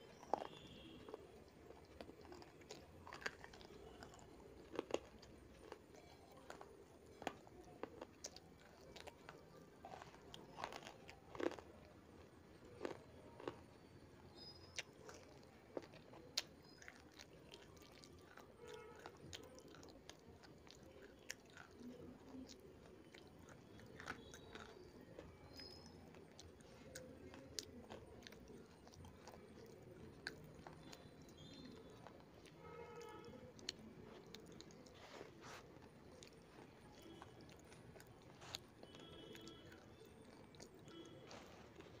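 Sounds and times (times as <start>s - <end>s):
person chewing clay: 0.0s - 42.0s.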